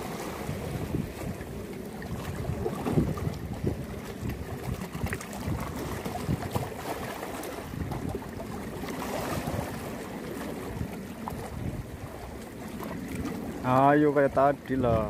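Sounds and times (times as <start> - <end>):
waves lapping against rocks: 0.0 - 15.0
wind buffeting microphone: 0.0 - 15.0.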